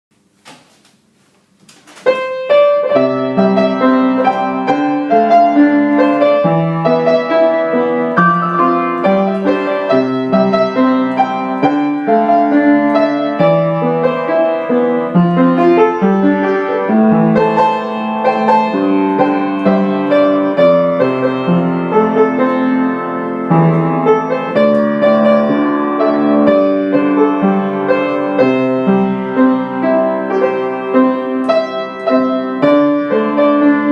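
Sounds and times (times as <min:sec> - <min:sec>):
piano melody over chords: 0:02.0 - 0:33.9.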